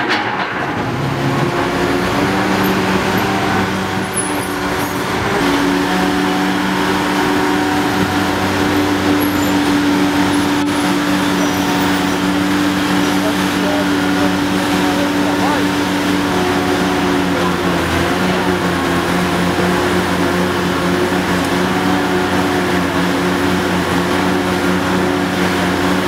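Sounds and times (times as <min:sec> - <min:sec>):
excavator diesel engine running: 0:00.0 - 0:26.0
street traffic: 0:00.0 - 0:26.0.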